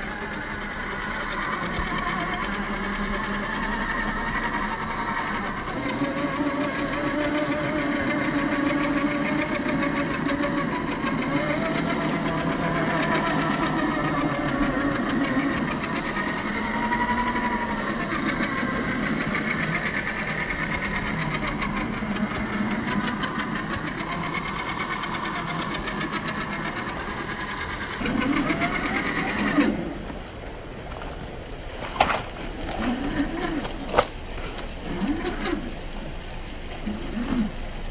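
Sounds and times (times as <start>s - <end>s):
electric motor whine: 0.0s - 30.3s, 32.5s - 35.9s, 36.8s - 37.6s.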